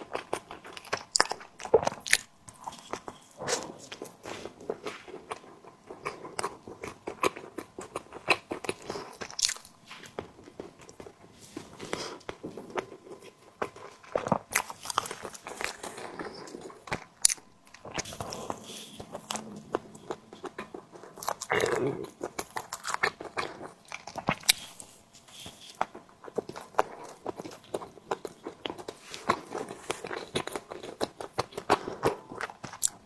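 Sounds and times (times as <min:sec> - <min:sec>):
close-miked chewing clicks: 0:00.0 - 0:11.2, 0:11.8 - 0:33.0.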